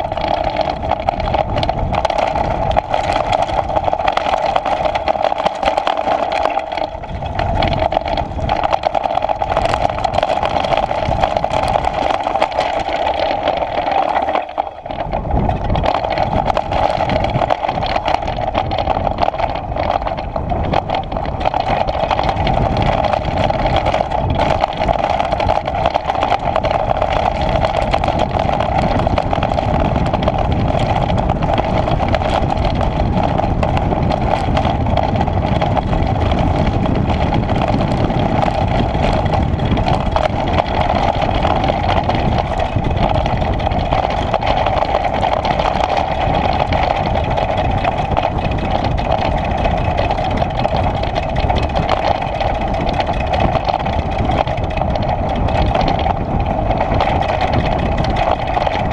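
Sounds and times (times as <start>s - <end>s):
bike rattling over stones: 0.0s - 58.9s
mountain bike tyres whirring: 0.0s - 58.9s
wind buffeting microphone: 0.0s - 58.9s.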